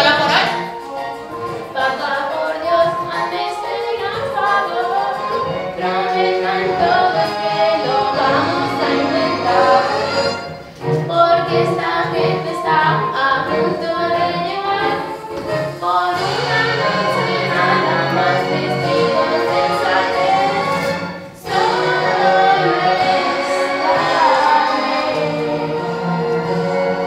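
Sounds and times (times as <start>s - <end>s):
group singing a show tune: 0.0s - 0.9s, 1.7s - 15.2s, 15.8s - 27.0s
light instrumental backing: 0.0s - 27.0s.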